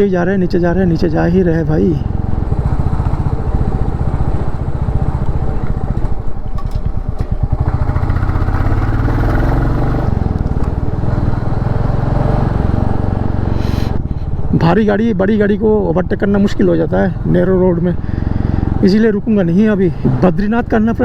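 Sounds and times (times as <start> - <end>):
motorcycle engine running: 0.5 - 21.0.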